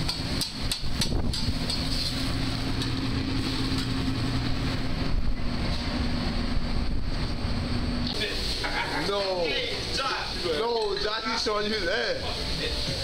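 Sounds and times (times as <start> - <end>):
exhaust hood fans roaring: 0.0 - 13.0.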